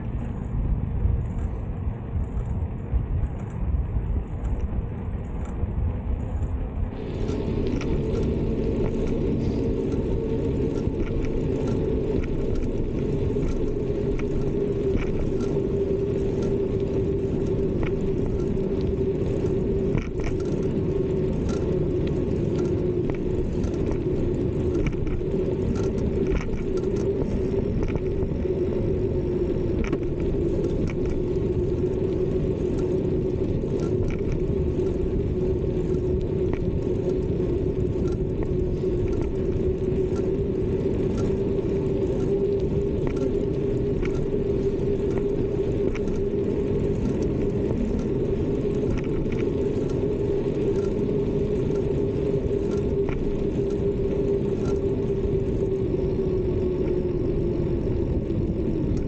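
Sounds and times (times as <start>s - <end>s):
constant hum: 0.0s - 59.0s
tyres rolling on pavement: 0.0s - 59.0s
wind on camera: 0.0s - 59.0s
bike rattling: 0.1s - 55.1s.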